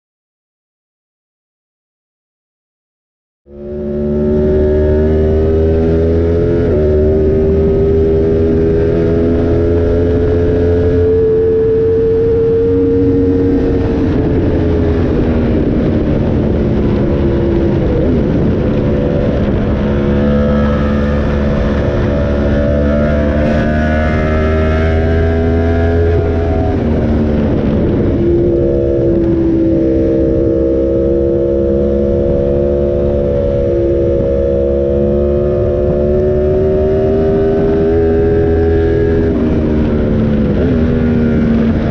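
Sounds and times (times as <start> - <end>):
motorcycle engine while riding: 3.5 - 41.9.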